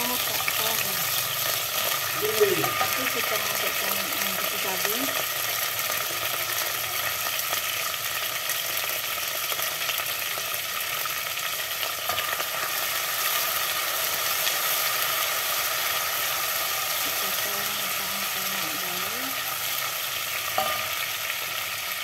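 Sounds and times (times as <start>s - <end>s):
seeds frying in hot oil: 0.0s - 22.0s.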